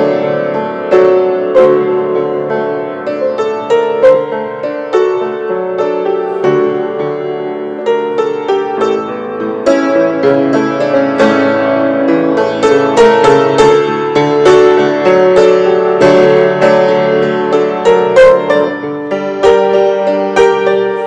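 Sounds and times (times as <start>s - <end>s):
solo piano playing a hymn: 0.0s - 21.0s.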